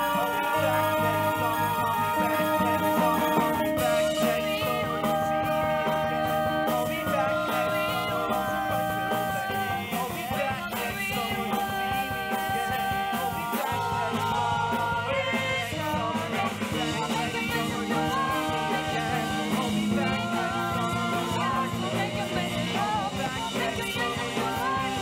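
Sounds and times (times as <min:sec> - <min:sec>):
cast singing long held notes: 0:00.0 - 0:25.0
rock band with drums playing: 0:00.0 - 0:25.0.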